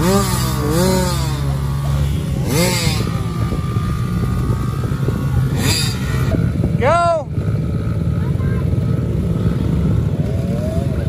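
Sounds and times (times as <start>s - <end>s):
dirt bike engines idling: 0.0s - 11.0s.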